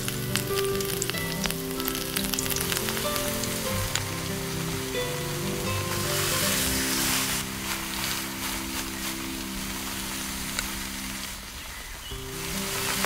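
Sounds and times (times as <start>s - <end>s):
background music with held notes: 0.0s - 13.0s
food sizzling in a pan: 0.0s - 13.0s.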